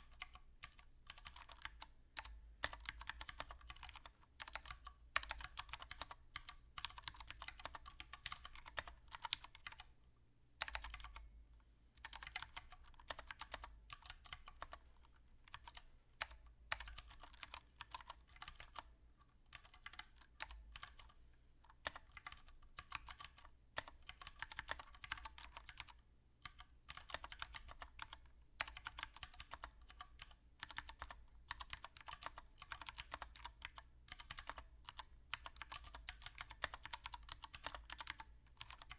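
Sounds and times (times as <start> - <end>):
fast typing on mechanical keyboard: 0.0 - 9.9, 10.6 - 11.2, 12.0 - 14.8, 15.5 - 18.9, 19.5 - 21.1, 21.7 - 38.9.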